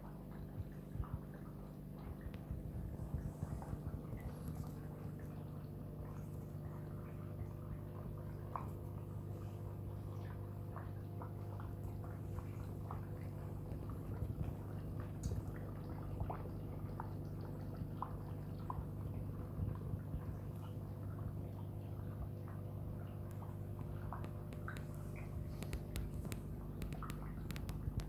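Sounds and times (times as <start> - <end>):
aquarium pump humming: 0.0 - 28.0
water dripping: 0.2 - 28.0
bubbles popping: 0.6 - 28.0.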